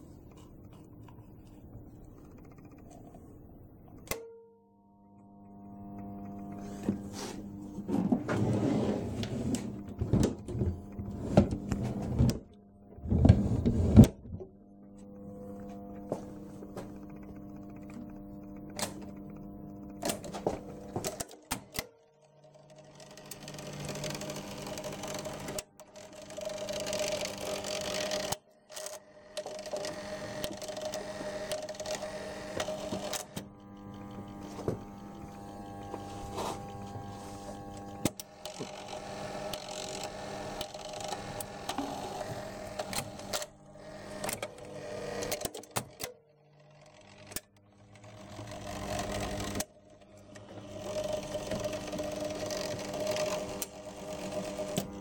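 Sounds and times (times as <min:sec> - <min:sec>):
motor whirring: 0:00.0 - 0:04.2, 0:05.1 - 0:14.1, 0:14.9 - 0:55.0.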